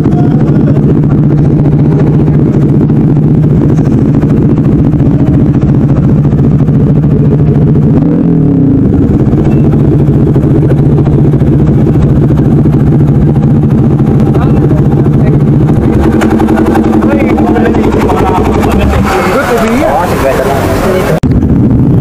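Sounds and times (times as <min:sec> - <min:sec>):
motorcycle engine idling: 0:00.0 - 0:21.2.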